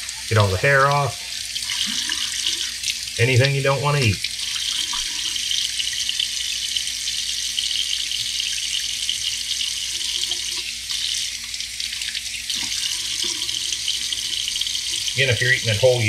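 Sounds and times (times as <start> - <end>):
faucet running into sink: 0.0 - 16.0.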